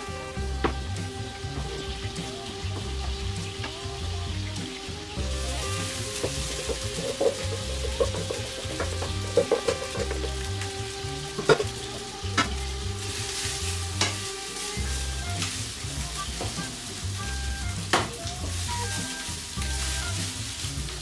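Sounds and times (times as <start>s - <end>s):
food sizzling in frying pan: 0.0s - 21.0s.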